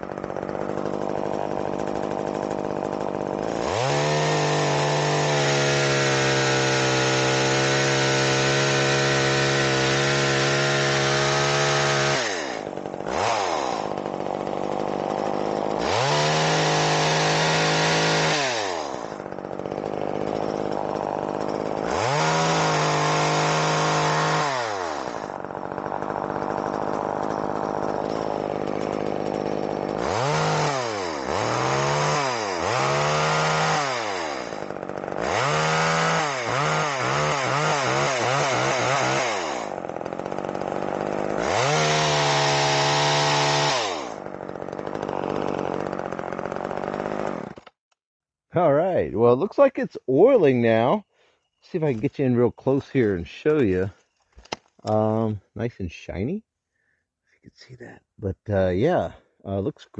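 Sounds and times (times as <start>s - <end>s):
chainsaw revving and idling: 0.0s - 47.8s, 50.2s - 55.5s.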